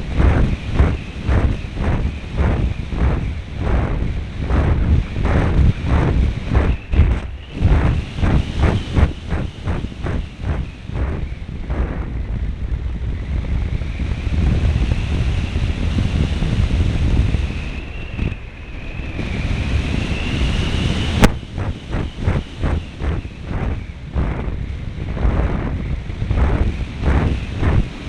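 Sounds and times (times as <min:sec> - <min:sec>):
small engine high whine: 0:00.0 - 0:28.0
wind buffeting microphone: 0:00.0 - 0:28.0.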